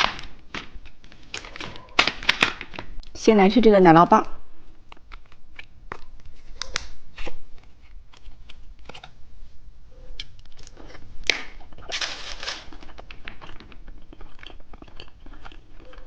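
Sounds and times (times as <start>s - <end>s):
plastic wrapper crinkling: 0.0s - 3.2s, 4.7s - 9.2s, 10.2s - 16.0s.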